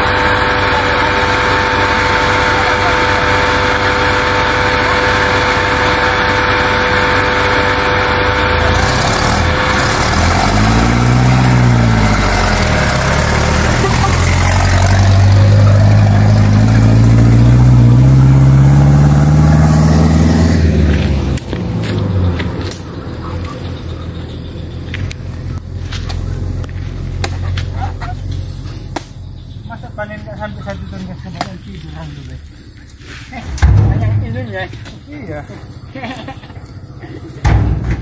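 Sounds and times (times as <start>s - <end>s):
vehicle pulling away accelerating: 0.0s - 32.8s
diesel engine idling and revving: 0.0s - 38.0s.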